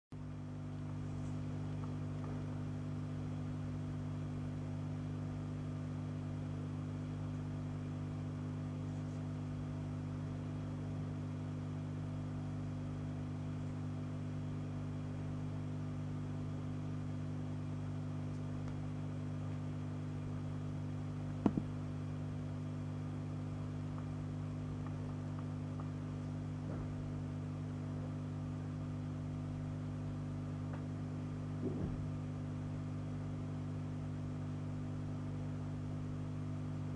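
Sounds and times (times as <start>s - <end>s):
low electrical hum: 0.1s - 36.9s.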